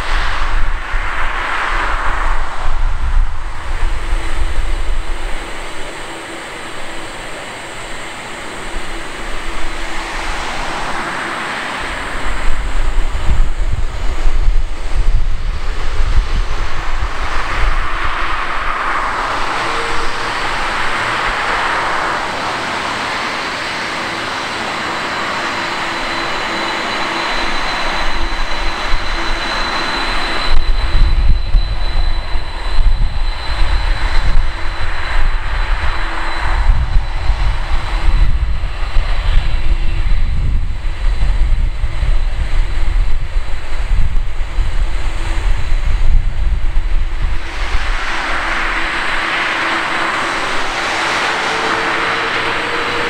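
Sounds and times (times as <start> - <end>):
jet engines whining: 0.0 - 53.0
wind rumbling on microphone: 0.0 - 53.0.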